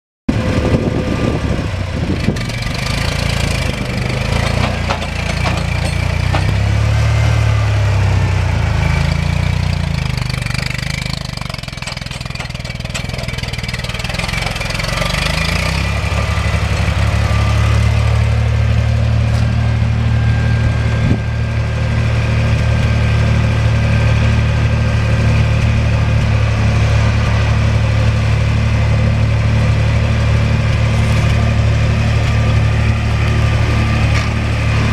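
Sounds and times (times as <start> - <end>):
tractor engine running: 0.3 - 34.9.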